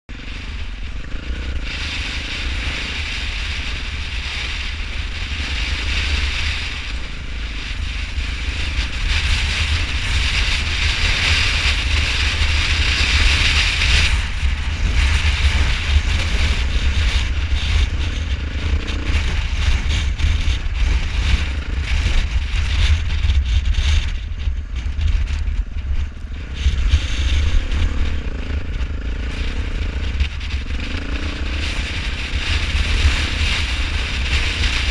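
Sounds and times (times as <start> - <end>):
vehicle running: 0.1 - 34.9
wind buffeting microphone: 0.1 - 34.9.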